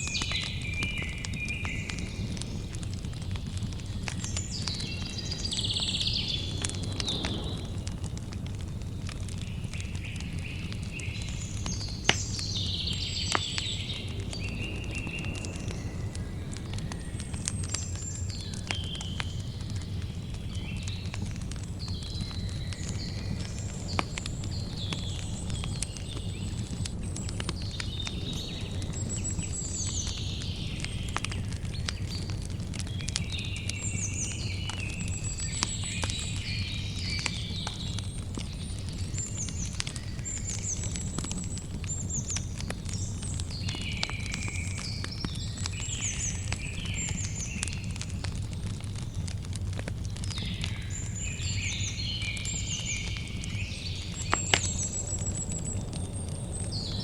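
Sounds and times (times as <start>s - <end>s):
birds chirping: 0.0s - 57.0s
campfire crackling and popping: 0.0s - 57.0s.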